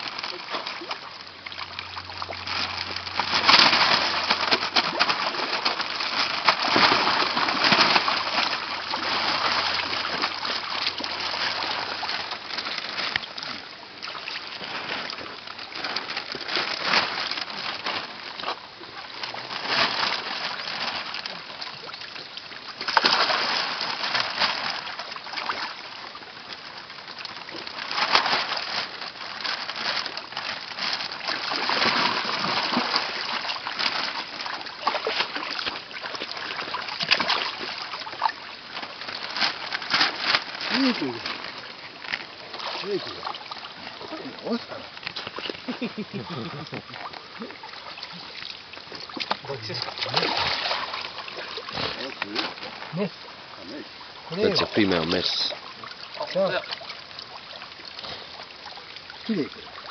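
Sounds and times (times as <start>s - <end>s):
water splashing and sloshing: 0.0s - 59.9s.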